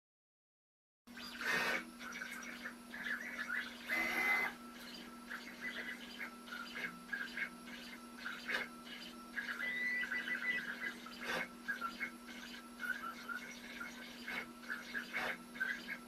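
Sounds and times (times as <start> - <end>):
steady low hum: 1.1 - 16.0
stepper motors whining: 1.1 - 16.0.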